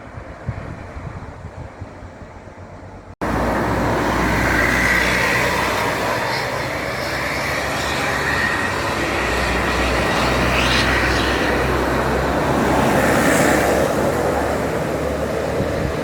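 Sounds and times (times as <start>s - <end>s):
bus engine hum: 0.0s - 16.0s
road noise rushing: 0.0s - 16.0s.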